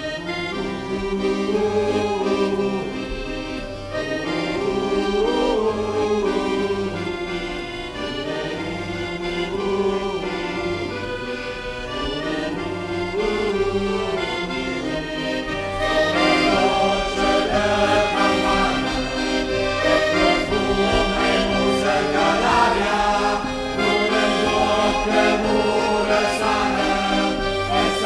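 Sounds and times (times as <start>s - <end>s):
accordion playing folk tune: 0.0s - 28.0s.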